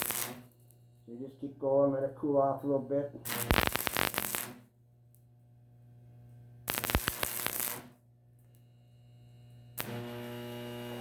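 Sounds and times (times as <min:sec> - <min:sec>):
arc welder crackling: 0:00.0 - 0:01.4, 0:02.2 - 0:05.3, 0:05.9 - 0:08.7, 0:09.3 - 0:11.0
steady electrical hum: 0:00.0 - 0:11.0.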